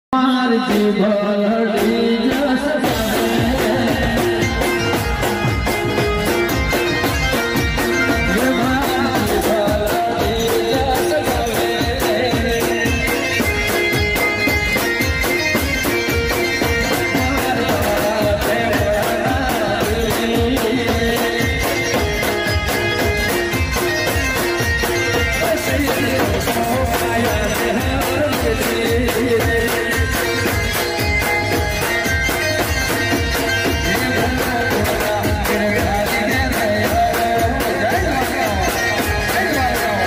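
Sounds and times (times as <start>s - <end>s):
folk music through loudspeakers: 0.1s - 40.0s
dhol drum beat: 0.5s - 40.0s.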